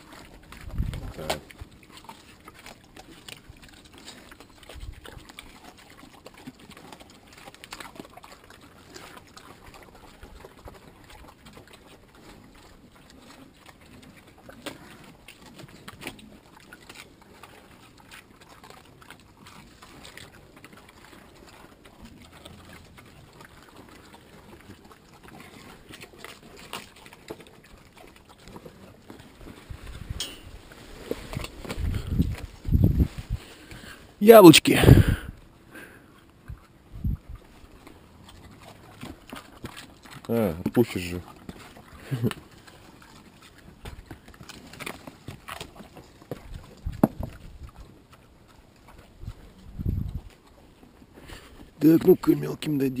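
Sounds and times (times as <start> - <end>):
pigs crunching and snuffling: 0.0 - 53.0.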